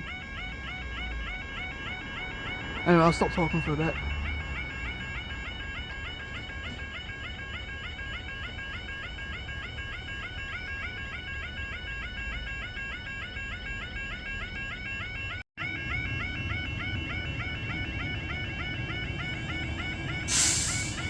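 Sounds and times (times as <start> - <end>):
level crossing warbling alarm: 0.0 - 21.0.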